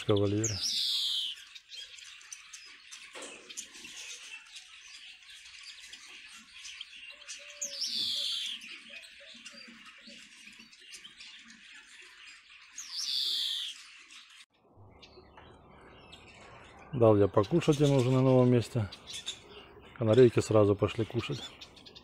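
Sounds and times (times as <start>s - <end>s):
twittering of finches and canaries: 0.0s - 22.0s.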